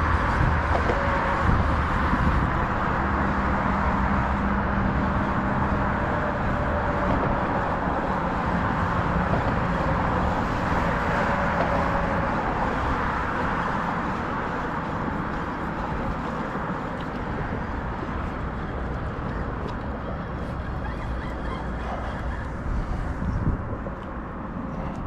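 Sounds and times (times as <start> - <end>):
traffic rushing past: 0.0 - 25.0.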